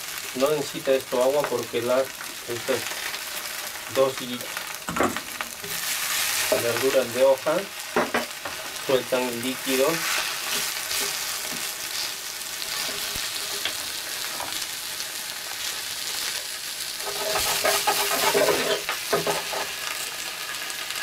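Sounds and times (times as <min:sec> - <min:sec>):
leaves sizzling in hot oil: 0:00.0 - 0:21.0.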